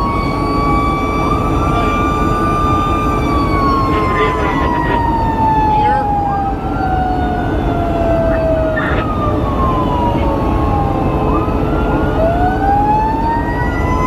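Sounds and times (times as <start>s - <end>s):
engine and road rumble: 0.0s - 14.0s
fire engine sirens wailing: 0.0s - 14.0s.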